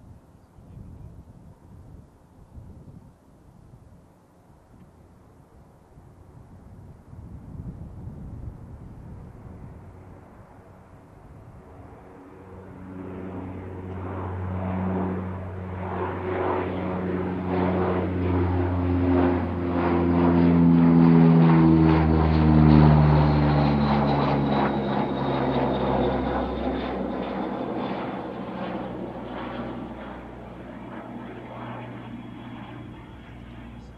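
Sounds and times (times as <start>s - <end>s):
propeller aircraft flyby drone: 0.0s - 33.9s.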